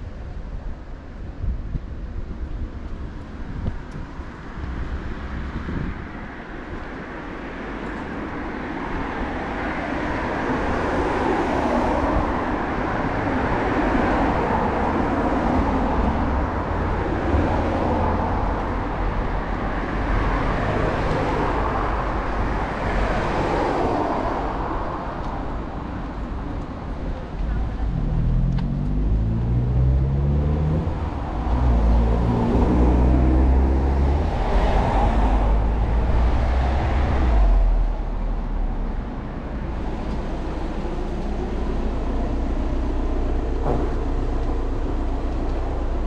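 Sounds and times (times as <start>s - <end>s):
low traffic rumble: 0.0s - 46.0s
cars passing: 3.0s - 46.0s.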